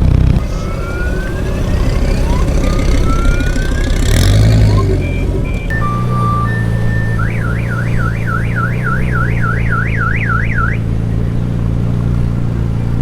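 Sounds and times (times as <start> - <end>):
car alarm siren: 0.4 - 11.2.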